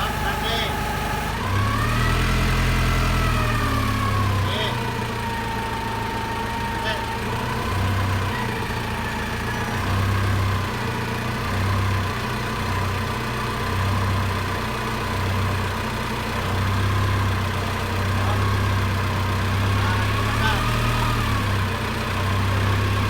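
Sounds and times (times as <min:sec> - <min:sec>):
forklift engine idling: 0:00.0 - 0:23.0.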